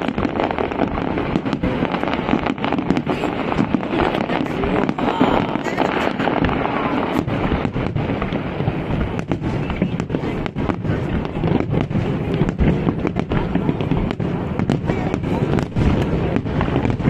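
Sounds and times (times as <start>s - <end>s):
fireworks bangs: 0.0s - 17.0s
fireworks crackle: 0.0s - 17.0s.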